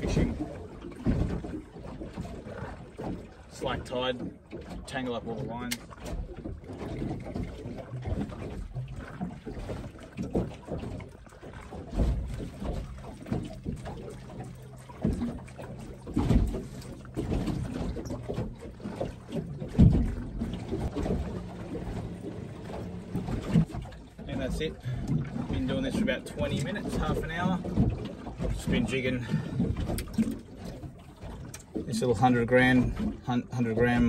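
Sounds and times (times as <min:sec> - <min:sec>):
knocks and thumps on hull: 0:00.0 - 0:34.0
water slapping against boat hull: 0:00.0 - 0:34.0.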